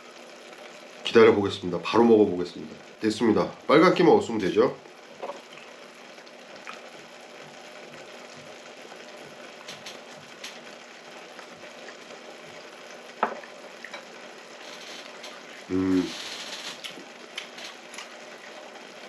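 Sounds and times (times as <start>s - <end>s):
broth bubbling in a pot: 0.0s - 19.0s.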